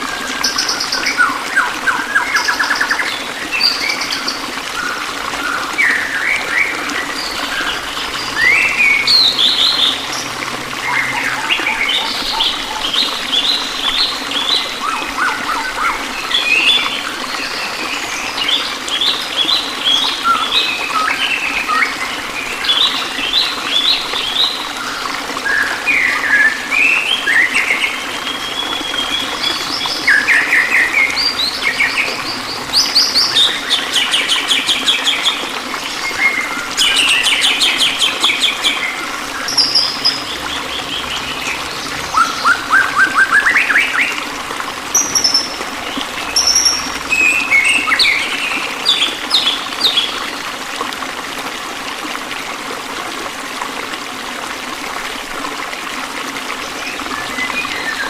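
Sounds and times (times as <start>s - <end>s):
songbirds chirping and trilling: 0.0s - 24.8s, 25.6s - 50.2s
running water hiss: 0.0s - 58.0s.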